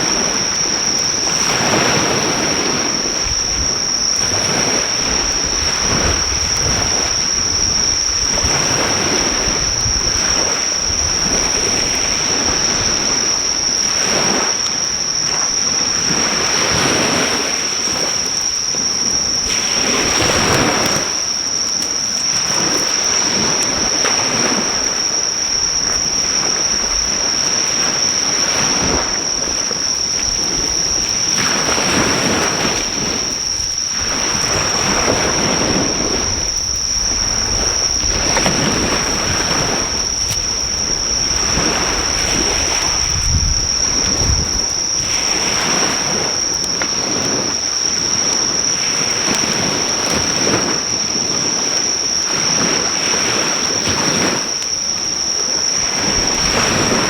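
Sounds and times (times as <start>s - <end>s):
insects trilling: 0.0s - 57.0s
sea waves washing onto shore: 0.0s - 57.0s.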